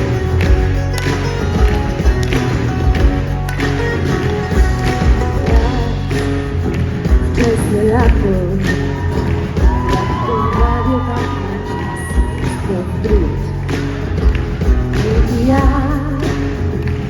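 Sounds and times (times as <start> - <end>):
live pop-rock band: 0.0 - 17.0
steady drum beat: 0.0 - 17.0.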